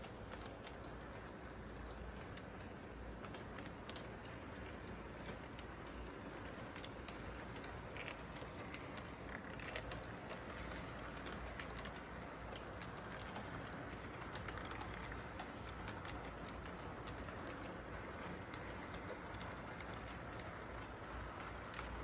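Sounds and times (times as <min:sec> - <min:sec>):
model train running on track: 0:00.0 - 0:22.0
wheels clicking over rail joints: 0:00.0 - 0:22.0.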